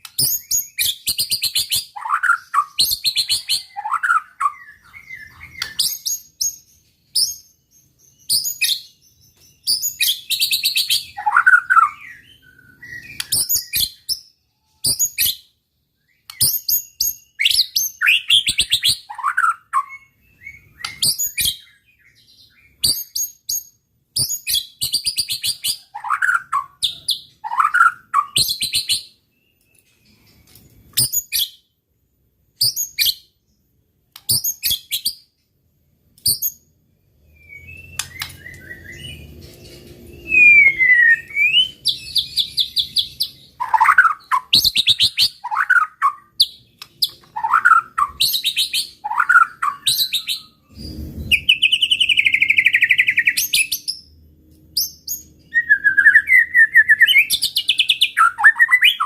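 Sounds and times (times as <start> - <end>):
bird singing trills and whistles: 0.0 - 31.7, 32.6 - 33.6, 34.2 - 35.3, 36.2 - 59.0.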